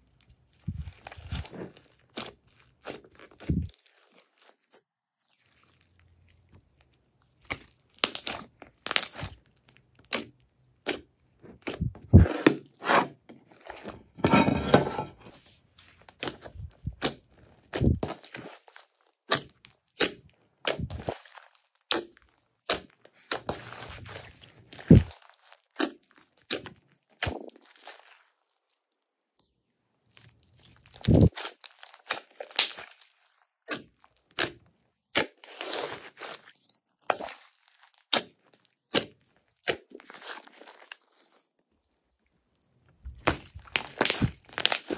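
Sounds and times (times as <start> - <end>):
slime squished by hand: 0.2 - 6.0, 6.6 - 13.0, 16.0 - 28.4, 30.1 - 41.4, 43.0 - 44.9.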